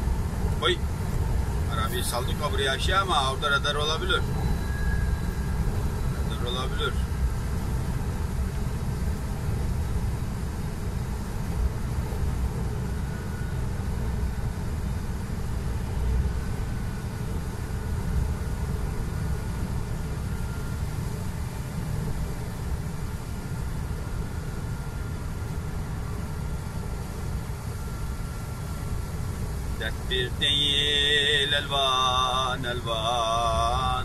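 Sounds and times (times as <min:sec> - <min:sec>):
road noise on wet road: 0:00.0 - 0:34.0
truck engine rumble: 0:00.0 - 0:34.0.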